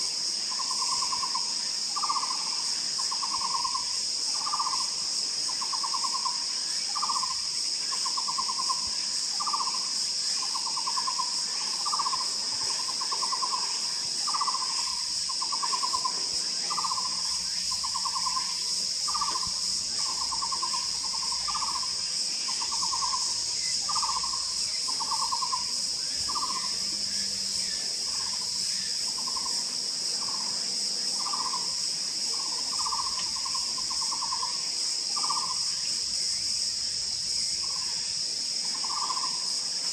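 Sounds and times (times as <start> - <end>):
high drone of insects: 0.0 - 39.9.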